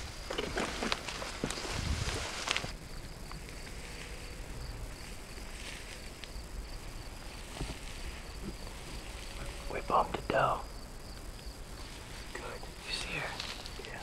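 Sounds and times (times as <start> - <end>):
footsteps crunching through brush: 0.0 - 9.6, 11.2 - 14.0
high insect trill: 0.0 - 14.0.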